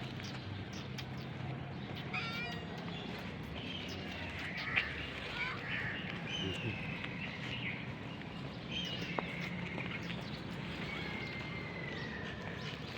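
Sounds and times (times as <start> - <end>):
steady background noise: 0.0 - 12.9.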